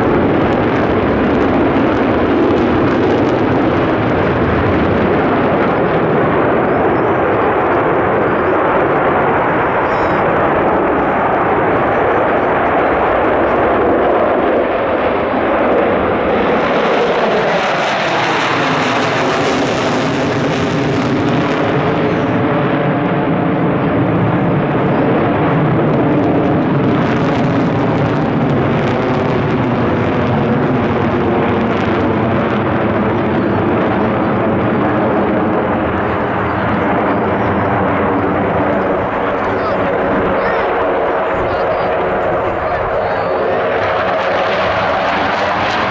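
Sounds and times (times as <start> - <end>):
fighter jets flying overhead: 0.0 - 45.9.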